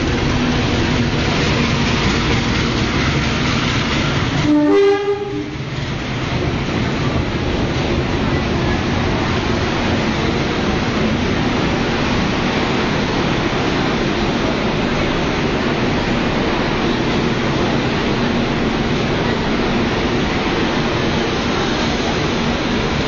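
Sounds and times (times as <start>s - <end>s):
train coaches rushing past: 0.0s - 23.0s.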